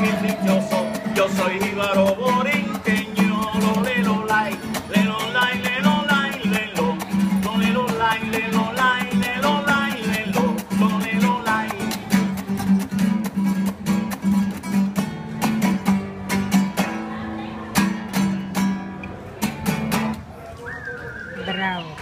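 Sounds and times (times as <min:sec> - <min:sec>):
acoustic guitar strumming and picking: 0:00.0 - 0:20.4.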